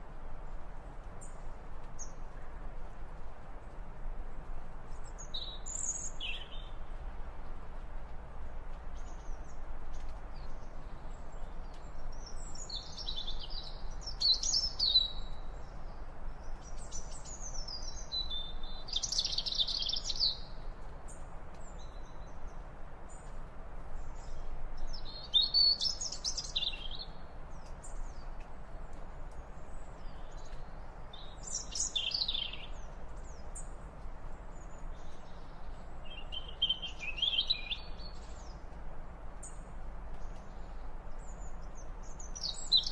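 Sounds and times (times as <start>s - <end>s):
faint background hiss: 0.0s - 42.9s.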